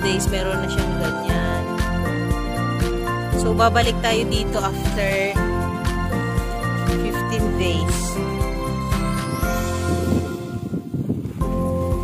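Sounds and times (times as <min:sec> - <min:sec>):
background music with held tones: 0:00.0 - 0:12.0.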